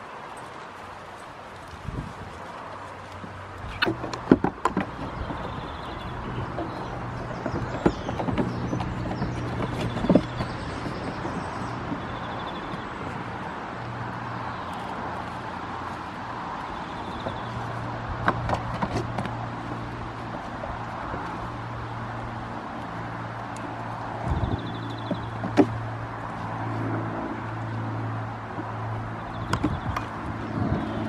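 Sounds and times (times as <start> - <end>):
traffic-like background noise: 0.0 - 31.0
hooves knocking on wood: 3.1 - 31.0.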